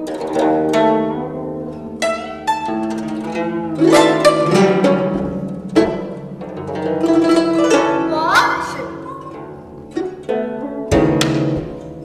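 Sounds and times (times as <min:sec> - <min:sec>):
plucked zither: 0:00.0 - 0:12.0.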